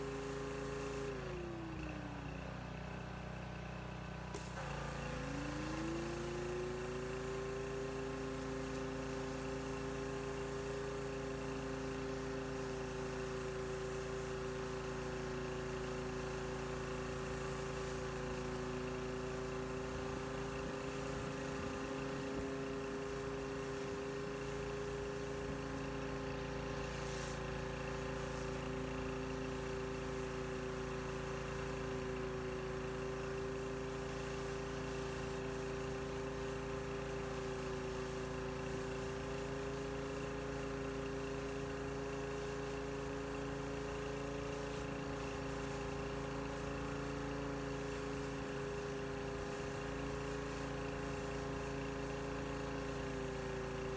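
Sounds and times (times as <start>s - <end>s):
pressure washer humming: 0.0s - 1.8s, 4.3s - 53.9s.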